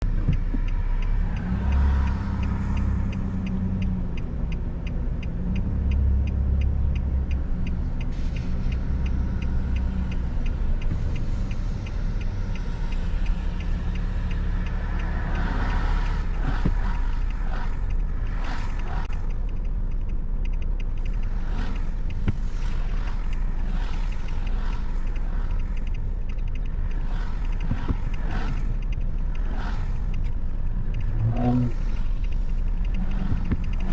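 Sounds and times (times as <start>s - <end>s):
rapid even ticking: 0.0s - 33.9s
road and engine rumble: 0.0s - 33.9s.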